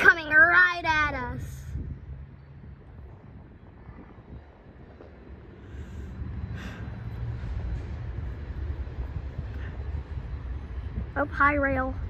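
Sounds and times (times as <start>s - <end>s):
rail vehicle engine rumble: 0.0s - 12.0s.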